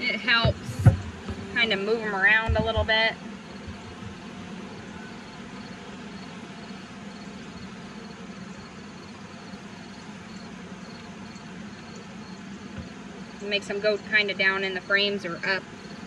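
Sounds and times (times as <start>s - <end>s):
bees humming: 0.0s - 16.0s.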